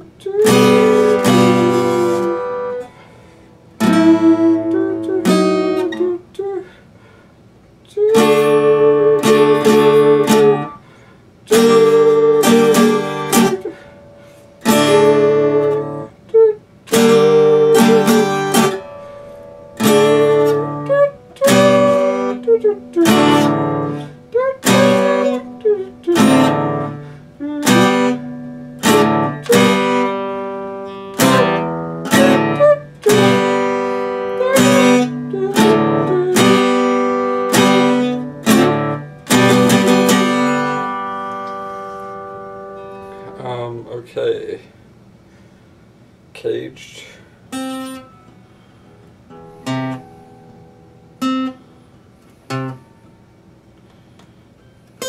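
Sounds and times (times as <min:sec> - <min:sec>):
acoustic guitar strumming chords: 0:00.0 - 0:07.1, 0:07.9 - 0:44.6, 0:47.5 - 0:55.0.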